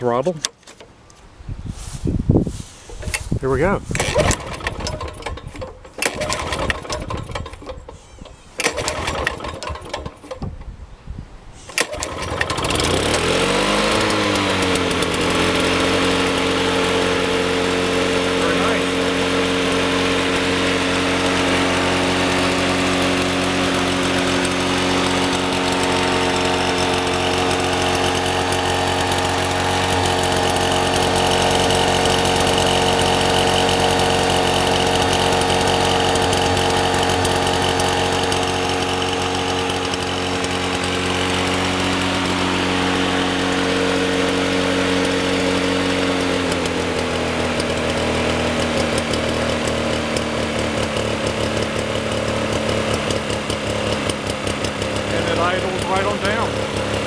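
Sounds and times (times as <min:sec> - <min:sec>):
lawn mower engine running: 0:01.7 - 0:10.8, 0:11.6 - 0:57.0.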